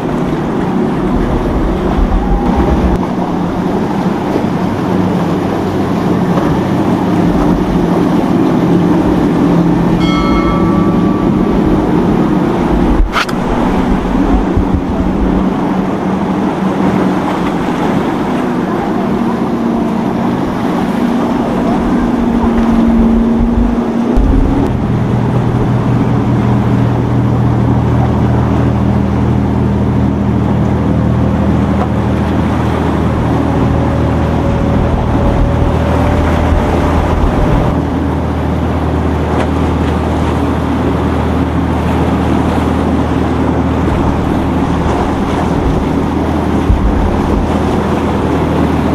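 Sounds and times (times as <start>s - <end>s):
deep engine drone: 0.0s - 48.9s
motorboat engines running: 0.0s - 48.9s
wind buffeting microphone: 0.0s - 48.9s.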